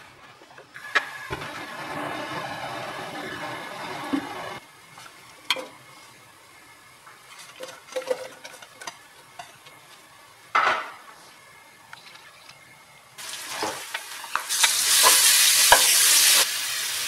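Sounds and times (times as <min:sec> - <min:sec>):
onions sizzling in oil: 0:00.8 - 0:10.6, 0:11.2 - 0:17.0.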